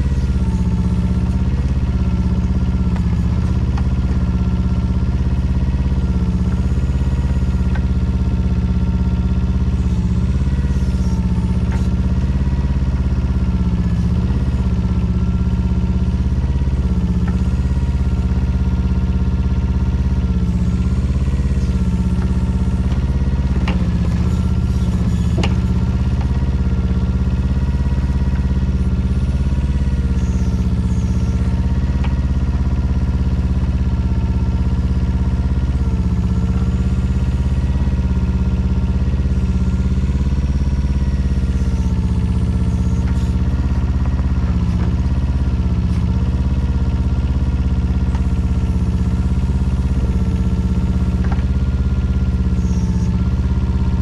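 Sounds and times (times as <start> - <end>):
mini excavator engine running: 0.0 - 54.0.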